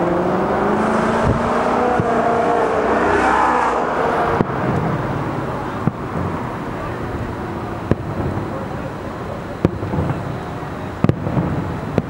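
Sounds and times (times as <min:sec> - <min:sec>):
vehicle engine noise: 0:00.0 - 0:12.0
firework bangs: 0:00.6 - 0:12.0.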